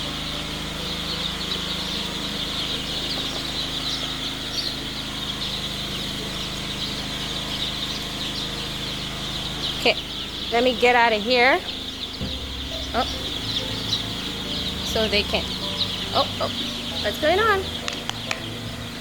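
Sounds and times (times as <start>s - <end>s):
chicks peeping: 0.0s - 19.0s
steady low hum: 0.0s - 19.0s.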